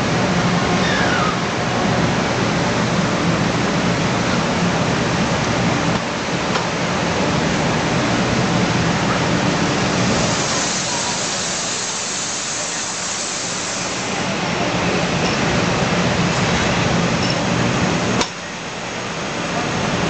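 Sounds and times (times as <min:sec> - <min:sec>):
train rushing past: 0:00.0 - 0:20.0.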